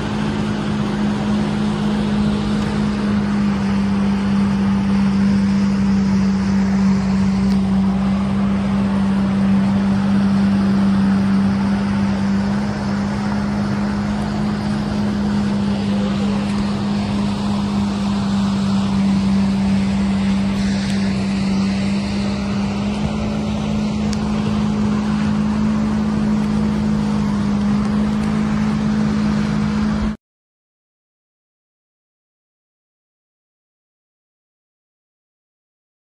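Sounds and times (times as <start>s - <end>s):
jet ski engine droning: 0.0s - 30.2s
rush of water and wind: 0.0s - 30.2s.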